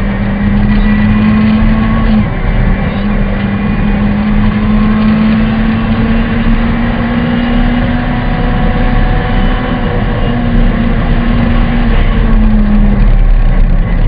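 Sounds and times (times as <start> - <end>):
car engine pulling: 0.0 - 14.0
road noise: 0.0 - 14.0.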